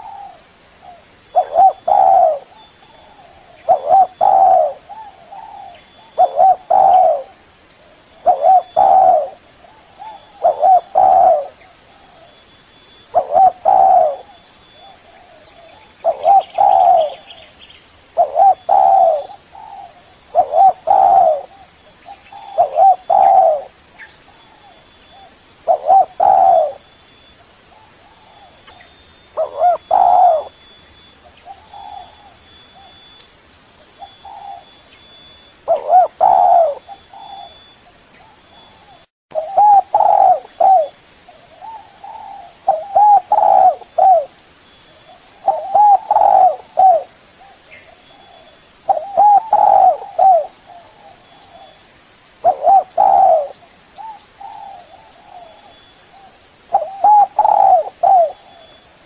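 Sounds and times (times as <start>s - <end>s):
dove cooing: 0.0s - 12.4s, 13.1s - 17.5s, 18.1s - 26.9s, 27.7s - 33.1s, 34.0s - 44.4s, 45.1s - 59.0s.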